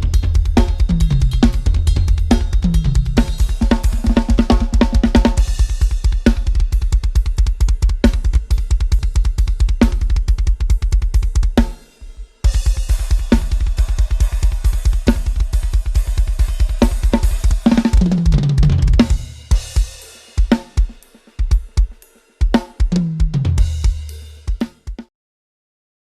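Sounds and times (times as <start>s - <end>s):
fast drum kit playing: 0.0s - 25.1s.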